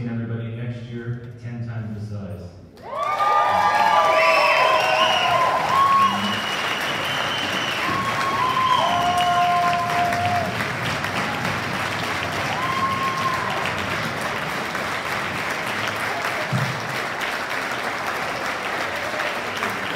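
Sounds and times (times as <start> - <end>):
audience applauding: 2.8 - 19.9.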